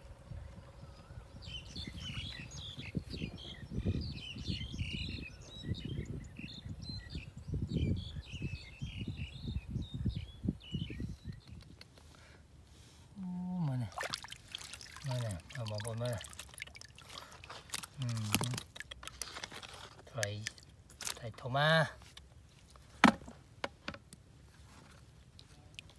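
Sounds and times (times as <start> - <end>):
small birds chirping: 0.0 - 12.5, 13.2 - 22.2.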